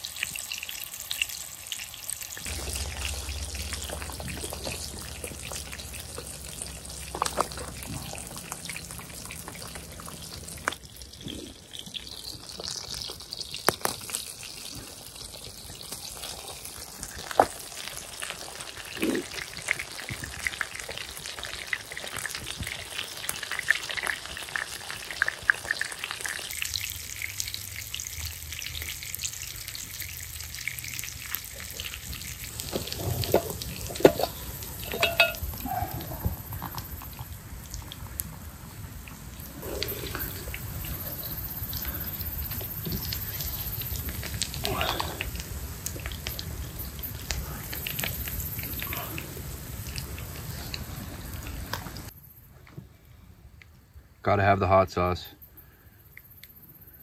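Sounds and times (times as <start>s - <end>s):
burgers sizzling in grease: 0.0s - 52.1s.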